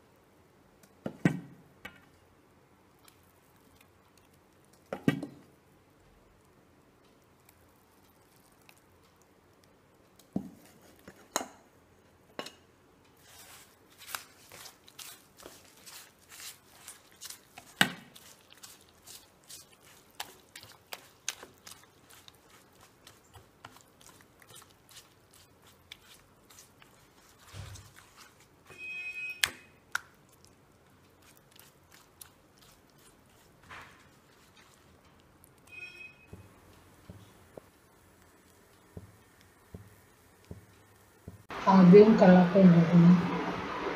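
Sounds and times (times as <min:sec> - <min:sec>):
hand mixing wet batter: 0:02.9 - 0:11.4, 0:13.1 - 0:43.9.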